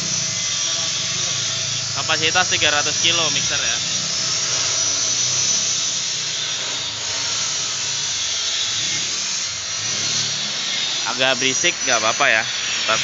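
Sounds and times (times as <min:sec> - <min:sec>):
power tool hissing whir: 0:00.0 - 0:13.0.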